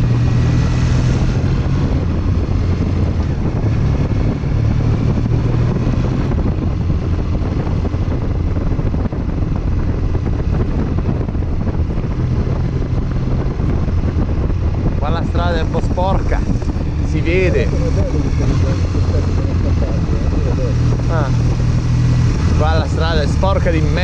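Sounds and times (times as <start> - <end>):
motorcycle engine running: 0.0 - 24.0
wind noise on microphone: 0.0 - 24.0.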